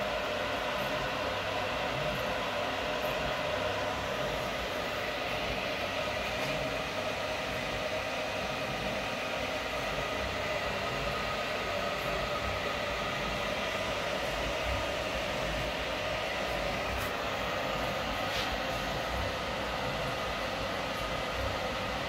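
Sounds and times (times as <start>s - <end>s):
mill mechanical hum: 0.0s - 22.0s
steady whining tones: 0.0s - 22.0s.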